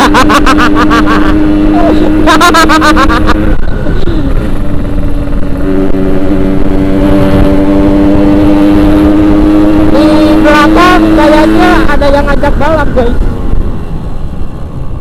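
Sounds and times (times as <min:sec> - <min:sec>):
two-stroke motorcycle engine running: 0:00.0 - 0:13.3.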